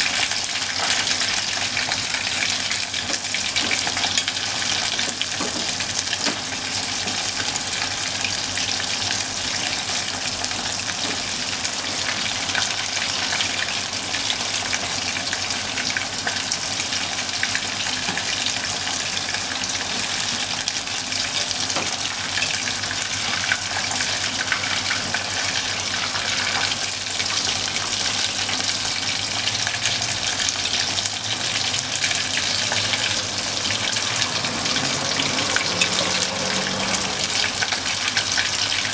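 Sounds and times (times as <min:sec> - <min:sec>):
meat sizzling in hot oil: 0:00.0 - 0:38.9.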